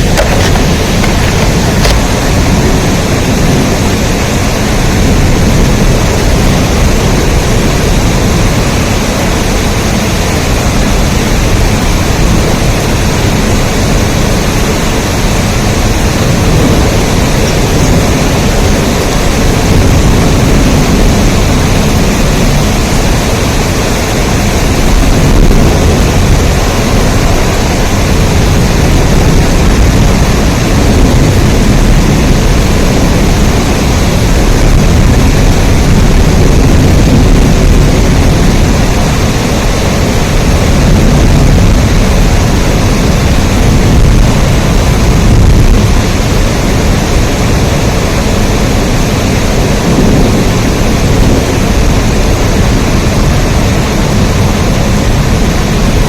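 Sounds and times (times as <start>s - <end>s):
deep rumble: 0.0s - 56.0s
heavy rain falling: 0.0s - 56.0s.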